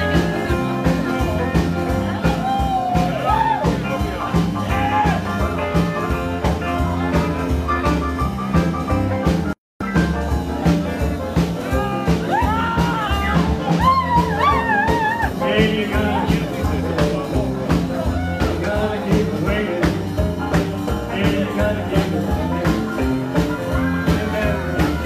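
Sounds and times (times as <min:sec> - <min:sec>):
rockabilly band playing: 0:00.0 - 0:25.0.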